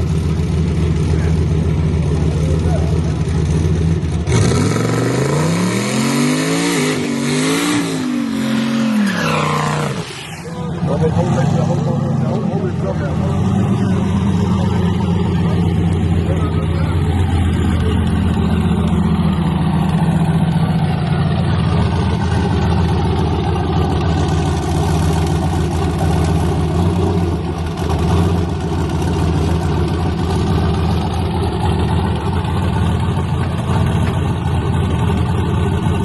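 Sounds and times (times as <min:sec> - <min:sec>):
truck engine idling: 0:00.0 - 0:04.4, 0:09.3 - 0:36.0.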